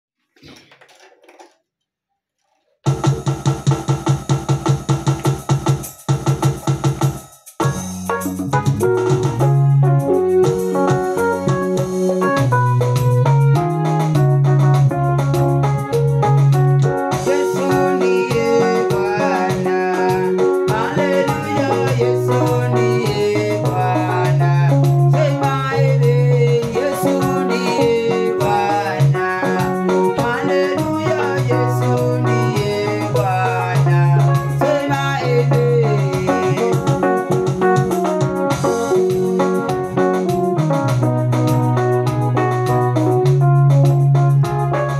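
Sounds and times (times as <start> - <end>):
electronic keyboard music: 2.9 - 44.9.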